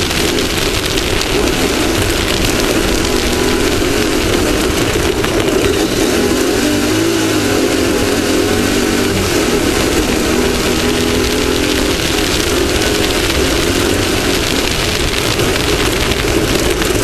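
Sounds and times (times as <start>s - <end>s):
engine running hard: 0.0s - 17.0s.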